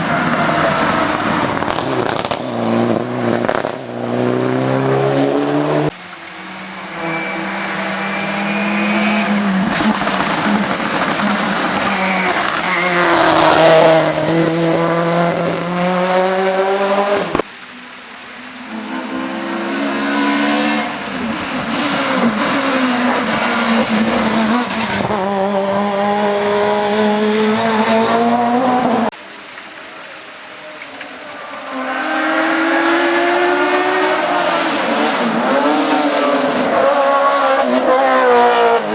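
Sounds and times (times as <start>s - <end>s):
racing car engines accelerating: 0.0s - 17.5s, 18.6s - 29.2s, 30.8s - 38.9s.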